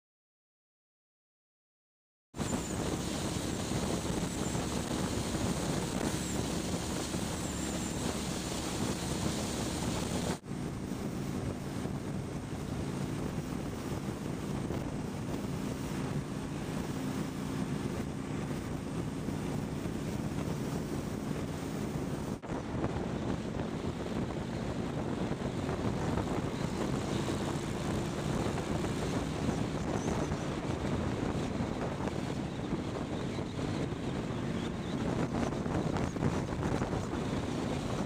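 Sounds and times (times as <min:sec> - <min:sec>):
wind noise on microphone: 0:02.4 - 0:38.0.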